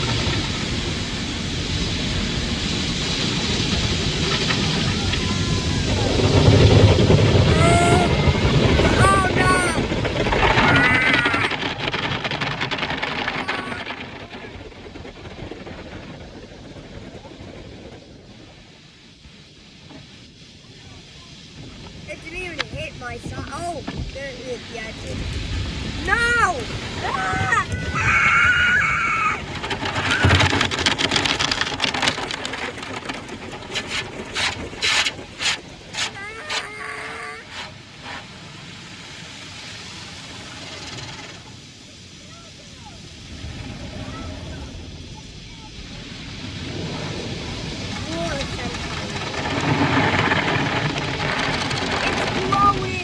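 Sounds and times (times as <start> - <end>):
car wash spraying water: 0.0 - 14.2, 18.9 - 53.0.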